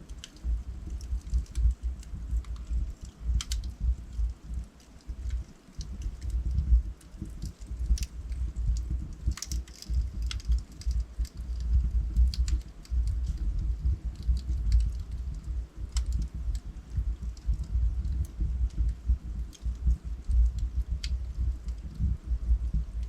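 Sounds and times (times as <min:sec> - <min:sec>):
logs crackling and popping: 0:00.0 - 0:23.0
low rumble of flames: 0:00.0 - 0:23.0.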